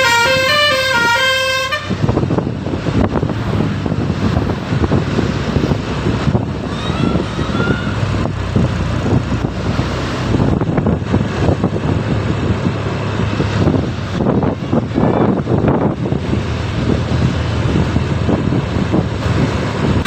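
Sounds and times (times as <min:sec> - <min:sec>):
bus diesel engine hum: 0:00.0 - 0:20.0
road noise: 0:00.0 - 0:20.0
wind buffeting microphone: 0:00.0 - 0:20.0.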